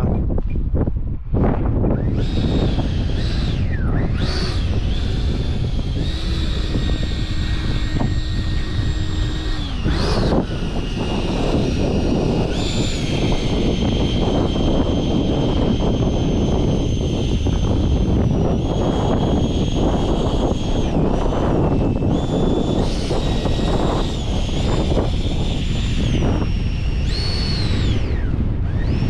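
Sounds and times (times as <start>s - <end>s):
model jet fan whine: 0.0s - 29.0s
wind buffeting microphone: 0.0s - 29.0s.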